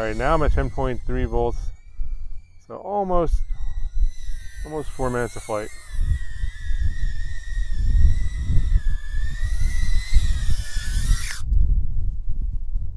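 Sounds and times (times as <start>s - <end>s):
drone motors whining: 0.0s - 11.5s
wind buffeting microphone: 0.0s - 12.9s.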